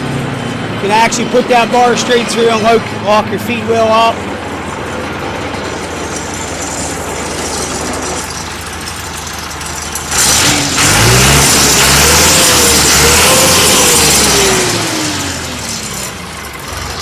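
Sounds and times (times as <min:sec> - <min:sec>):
high-pitched whine: 0:00.0 - 0:16.4
wood chipper diesel engine: 0:00.0 - 0:17.0.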